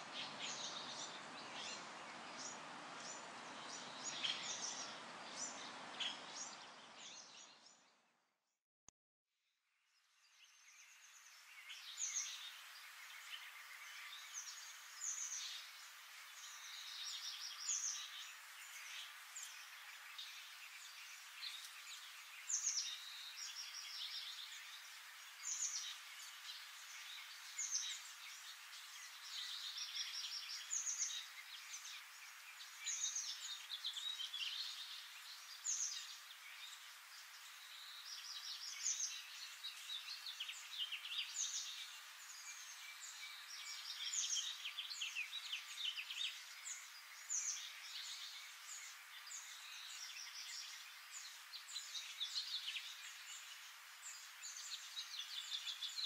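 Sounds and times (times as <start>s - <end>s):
steady background hiss: 0.0s - 7.7s, 10.1s - 56.0s.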